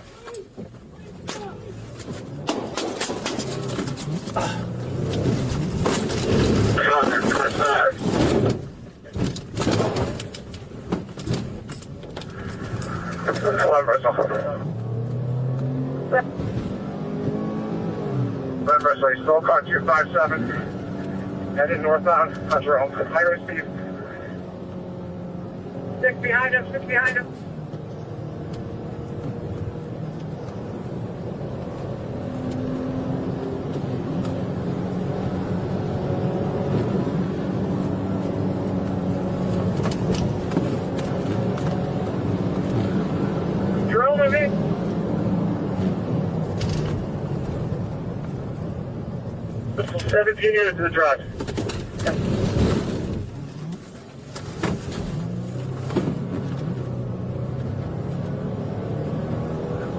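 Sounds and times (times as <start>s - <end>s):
car engine and road drone: 0.0s - 59.9s.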